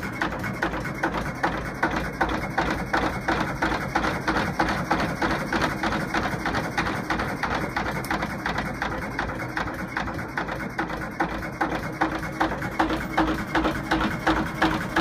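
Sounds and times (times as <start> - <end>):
diesel engine knocking slowly: 0.0 - 15.0.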